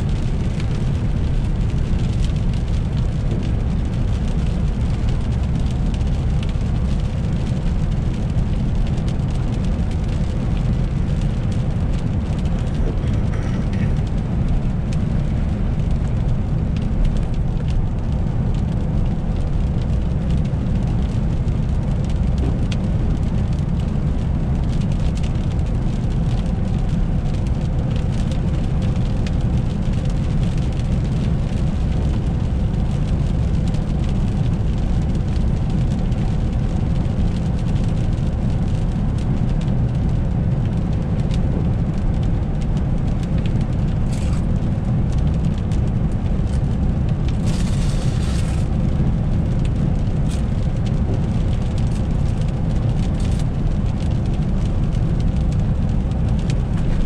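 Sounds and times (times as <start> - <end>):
tyre and engine rumble: 0.0 - 57.0.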